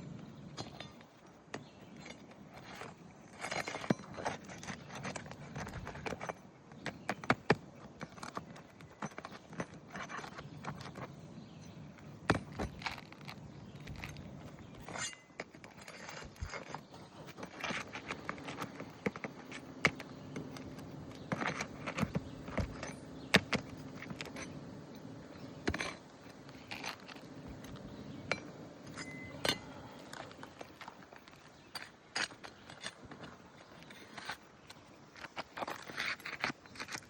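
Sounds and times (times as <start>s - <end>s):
hand tools clicking and scraping: 0.4s - 37.0s.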